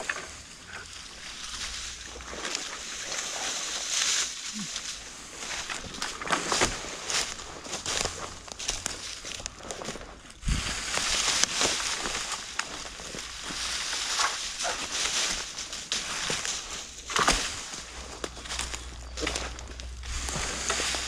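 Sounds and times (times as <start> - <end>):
branch dragged through brush: 0.0 - 21.0.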